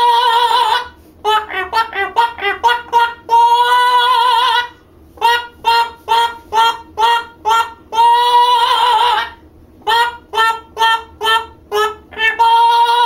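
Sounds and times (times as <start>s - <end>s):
parrot singing operatically: 0.0s - 13.0s.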